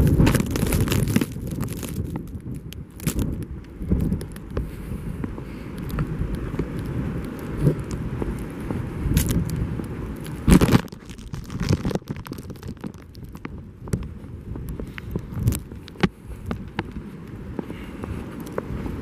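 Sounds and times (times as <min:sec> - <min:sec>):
crunching and scraping clicks: 0:00.0 - 0:04.8, 0:05.7 - 0:19.0
wind rumbling on microphone: 0:00.0 - 0:19.0.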